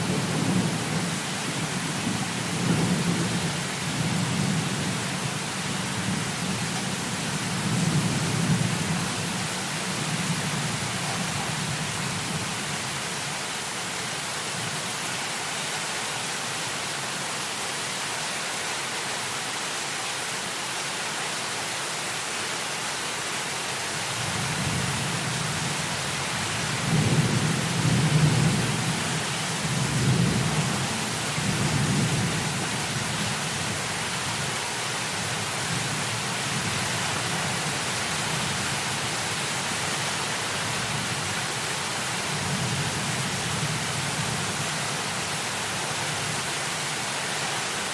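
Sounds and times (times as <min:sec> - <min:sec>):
heavy rain hissing: 0:00.0 - 0:47.9.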